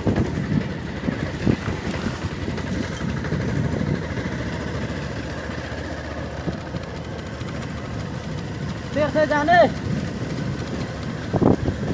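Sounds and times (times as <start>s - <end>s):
motorcycle engine rumbling: 0.0s - 11.9s.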